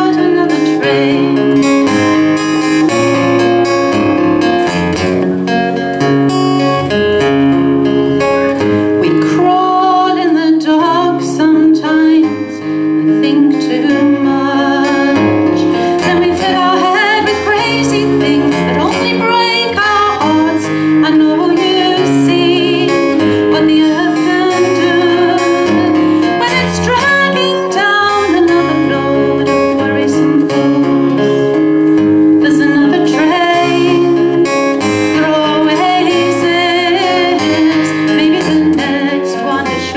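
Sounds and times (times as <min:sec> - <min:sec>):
woman singing a folk song: 0:00.0 - 0:03.0, 0:08.4 - 0:39.9
strummed acoustic guitar: 0:00.0 - 0:39.9.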